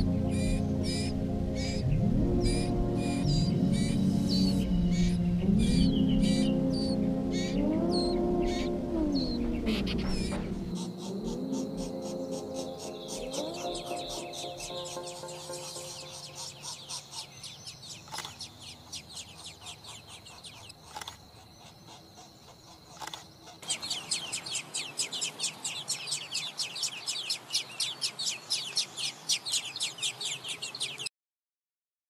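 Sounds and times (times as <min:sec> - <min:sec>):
nestling birds chirping: 0:00.0 - 0:31.1.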